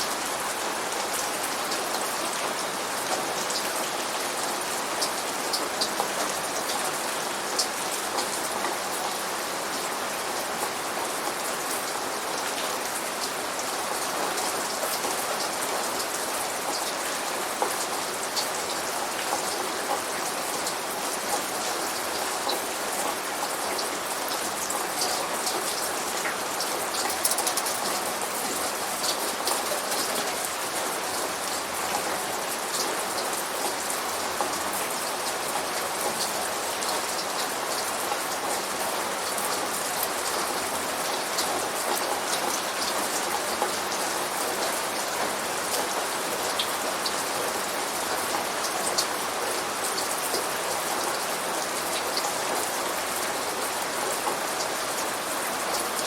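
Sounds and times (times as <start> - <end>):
rain falling and splashing: 0.0 - 56.0.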